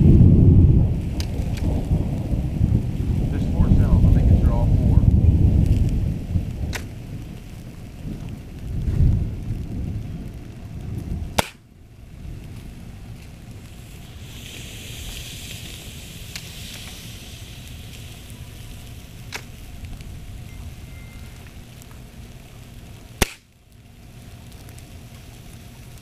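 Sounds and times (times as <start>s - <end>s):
battery venting hiss: 0.0s - 26.0s
low rumble: 0.0s - 26.0s
sharp cracks: 1.0s - 11.8s, 12.4s - 20.2s, 21.4s - 23.8s.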